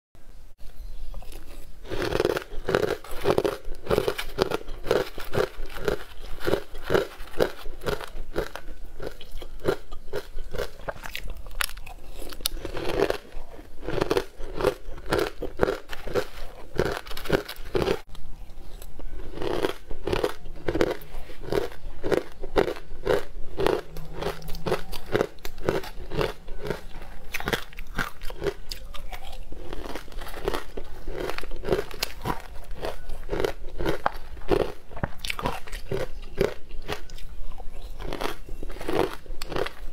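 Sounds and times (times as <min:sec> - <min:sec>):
crunching and chewing ice: 0:01.1 - 0:39.9.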